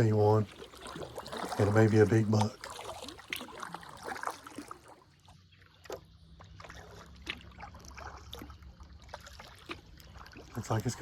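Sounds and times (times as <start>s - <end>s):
paddle dipping in water: 0.0s - 11.0s
small splashes and drips: 0.0s - 11.0s.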